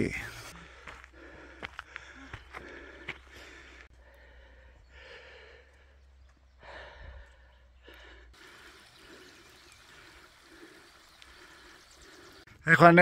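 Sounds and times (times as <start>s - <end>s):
person breathing hard: 0.5s - 12.5s.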